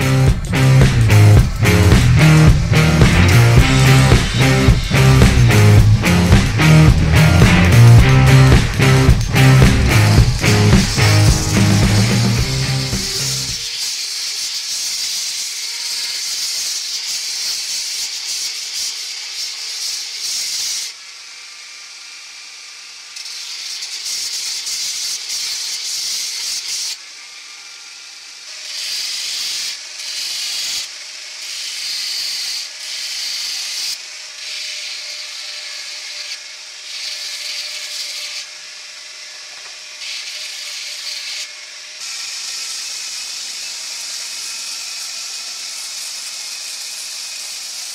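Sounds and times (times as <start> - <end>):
belt grinder grinding steel: 0.0 - 47.9.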